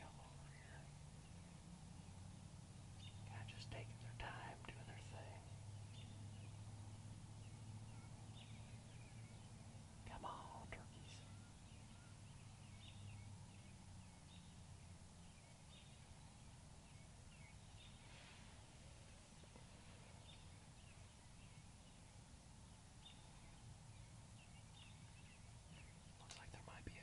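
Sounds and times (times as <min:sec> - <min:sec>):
faint bird chirps: 0:00.0 - 0:27.0
low steady rumble: 0:00.0 - 0:27.0.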